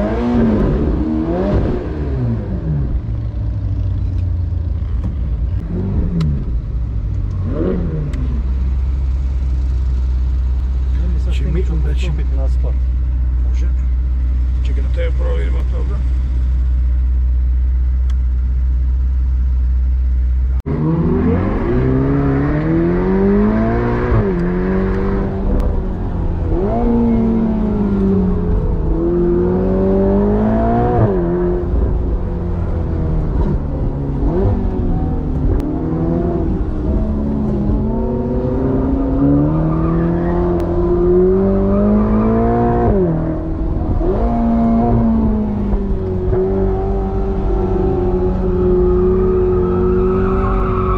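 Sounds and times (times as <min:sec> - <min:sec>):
car engine accelerating: 0:00.0 - 0:50.9
car engine droning: 0:00.0 - 0:50.9.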